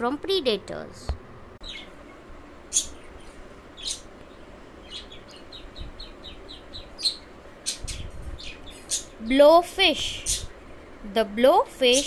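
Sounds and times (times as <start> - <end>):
small birds chirping: 1.6 - 12.0.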